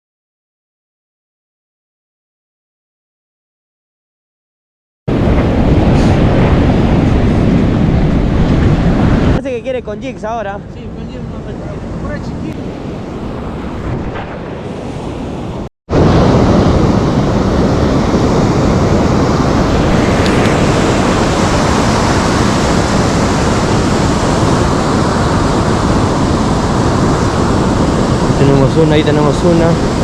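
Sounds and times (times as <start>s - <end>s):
sea surf washing on shore: 5.1s - 30.0s
wind on microphone: 5.1s - 30.0s.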